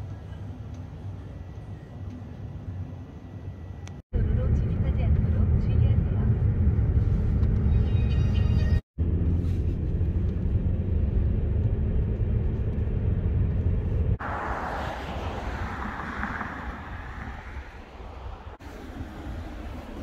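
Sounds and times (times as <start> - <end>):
road rumble inside moving car: 0.0 - 20.0.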